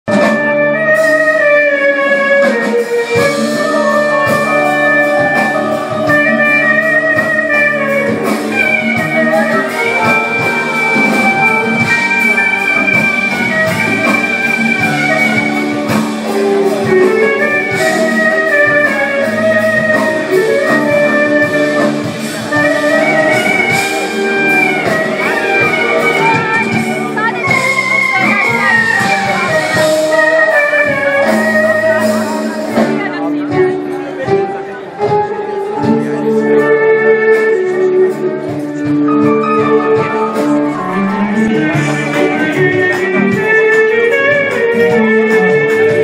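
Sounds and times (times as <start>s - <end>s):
guitar: 0.1s - 46.0s
live band music: 0.1s - 46.0s
sliding lead melody: 0.1s - 46.0s.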